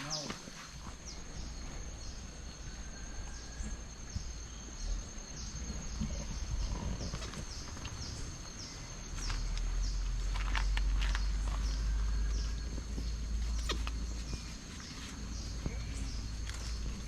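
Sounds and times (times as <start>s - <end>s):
low wind rumble on microphone: 0.8s - 17.0s.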